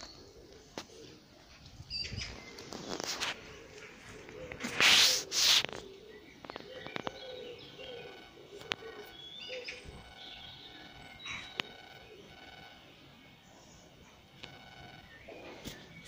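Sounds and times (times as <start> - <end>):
pigeon cooing: 0.0 - 12.9
birds chirping: 0.0 - 16.0.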